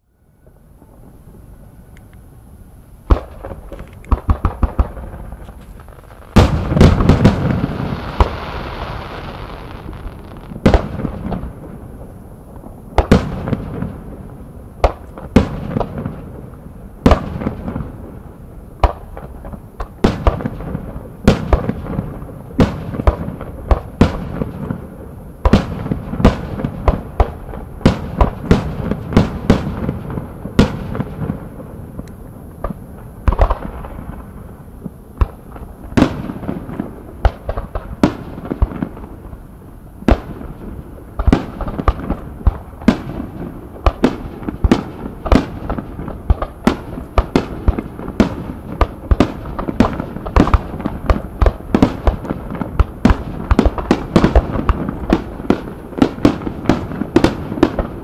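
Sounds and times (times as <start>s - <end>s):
fireworks bursting with sharp bangs: 3.0s - 58.0s.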